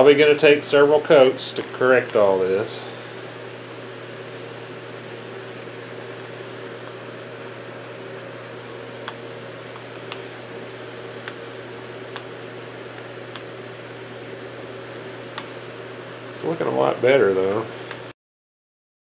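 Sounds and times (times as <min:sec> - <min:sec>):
low hum of fan: 0:00.0 - 0:18.1.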